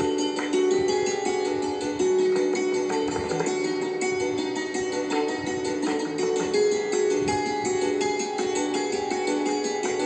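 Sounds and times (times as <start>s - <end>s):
plucked string instrument over drone: 0.0s - 10.0s.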